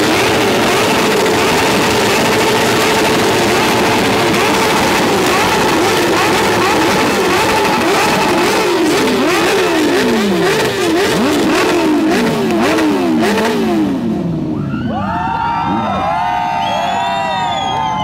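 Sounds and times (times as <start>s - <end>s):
motorcycle engines revving: 0.0s - 17.1s.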